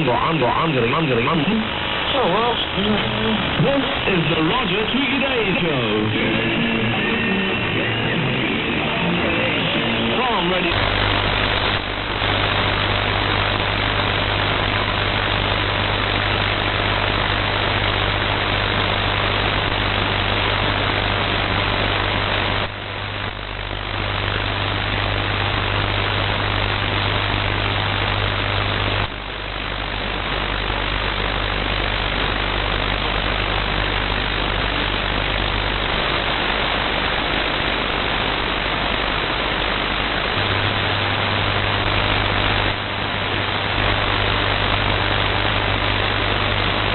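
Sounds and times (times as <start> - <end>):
harsh radio interference hiss: 0.0 - 46.9.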